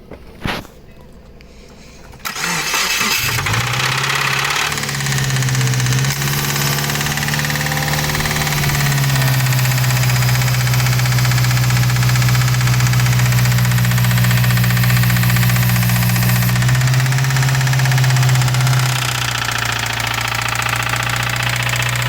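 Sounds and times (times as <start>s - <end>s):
car engine starting and idling: 2.0s - 22.0s
engine knocking: 2.3s - 22.0s.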